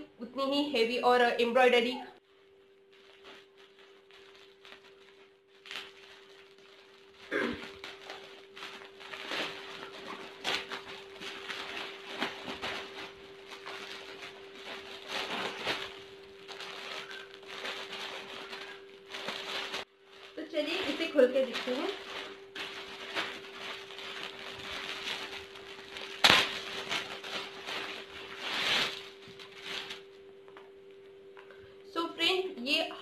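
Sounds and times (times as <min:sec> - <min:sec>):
faint steady hum: 0:00.0 - 0:33.0
plastic package rustling: 0:02.3 - 0:31.6.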